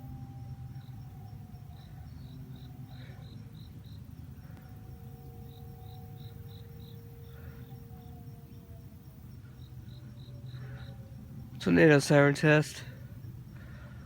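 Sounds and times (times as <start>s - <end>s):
crickets chirping: 0.0s - 14.0s
distant tornado warning sirens: 0.0s - 14.0s
low rumble: 0.0s - 14.0s.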